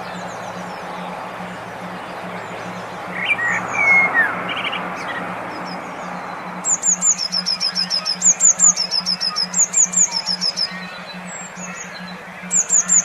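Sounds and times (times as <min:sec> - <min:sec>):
bird downward-sweeping notes: 0:00.0 - 0:13.0
songbirds chirping: 0:00.0 - 0:13.0.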